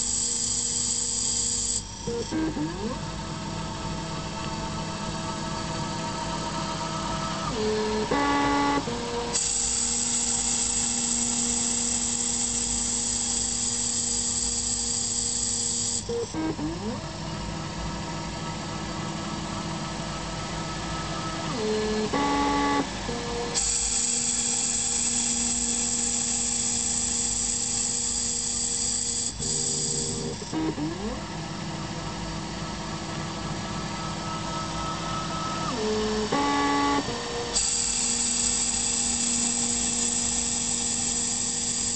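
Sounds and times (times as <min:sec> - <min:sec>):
lathe cutting hiss: 0:00.0 - 0:02.3, 0:04.2 - 0:16.2, 0:19.4 - 0:30.8, 0:32.1 - 0:41.9
axis motors whining: 0:00.0 - 0:41.9
motor whine: 0:00.0 - 0:41.9.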